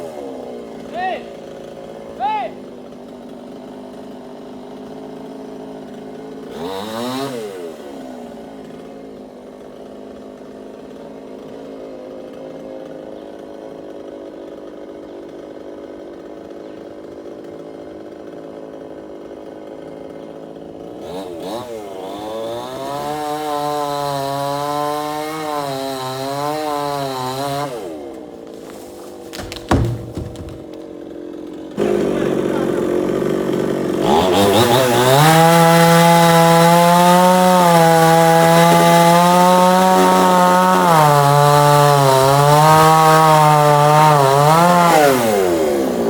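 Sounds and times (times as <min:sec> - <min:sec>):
chainsaw engine idling and revving: 0:00.0 - 0:30.0, 0:30.6 - 0:46.0.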